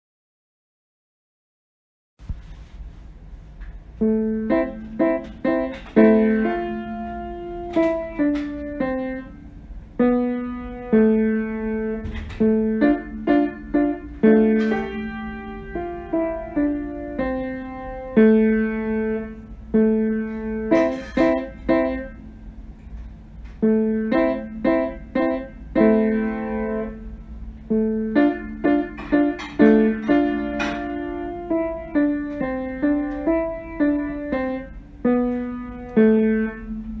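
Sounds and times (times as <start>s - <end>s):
slow piano music: 4.0s - 37.0s.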